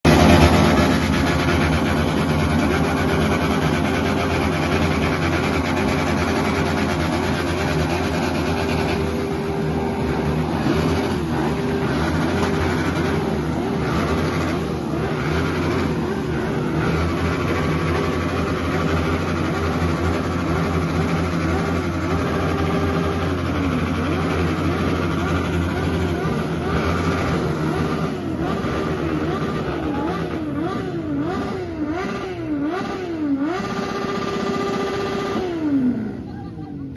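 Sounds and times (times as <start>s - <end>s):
engine running with wavering pitch: 0.0s - 36.9s.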